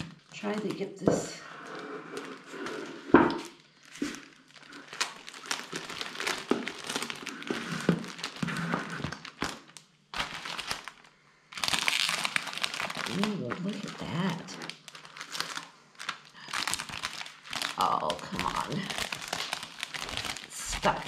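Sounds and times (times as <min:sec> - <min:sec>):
plastic sheet crinkling: 0:00.0 - 0:21.0.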